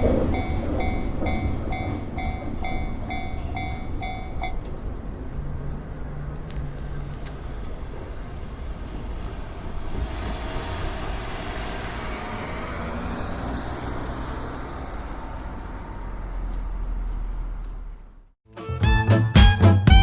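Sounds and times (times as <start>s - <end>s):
vehicle passing: 0.0s - 18.3s.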